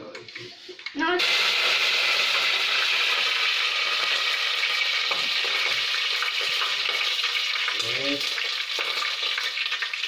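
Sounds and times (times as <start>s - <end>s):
seeds sizzling and popping in oil: 0.8s - 10.0s.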